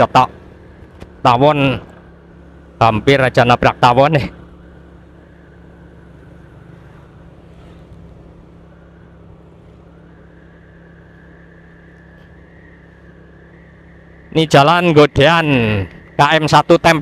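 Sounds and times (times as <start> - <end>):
faint high whine: 0.0 - 17.0
road noise: 0.0 - 17.0
vehicle engine hum: 0.0 - 17.0.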